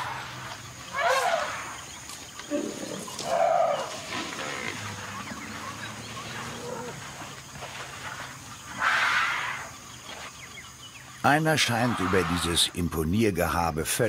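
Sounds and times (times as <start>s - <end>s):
elephants calling: 0.0s - 10.2s, 11.1s - 12.9s.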